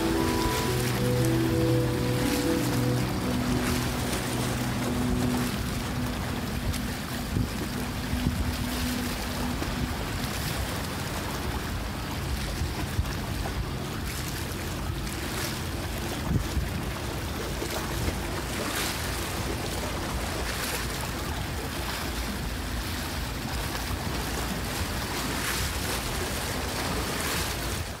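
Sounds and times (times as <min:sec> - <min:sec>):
sea waves washing against rocks: 0:00.0 - 0:28.0
wind rumbling on microphone: 0:00.0 - 0:28.0.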